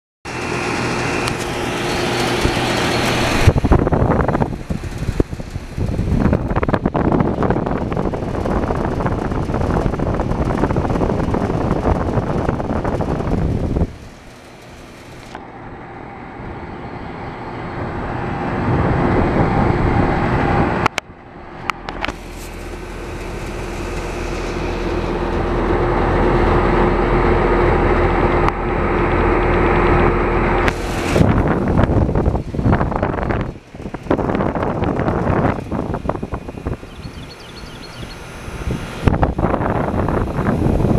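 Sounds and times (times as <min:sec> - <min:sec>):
air conditioner fan rushing: 0:00.3 - 0:40.9
air conditioner humming: 0:00.3 - 0:40.9
wind buffeting on microphone: 0:01.2 - 0:14.4, 0:16.9 - 0:40.9.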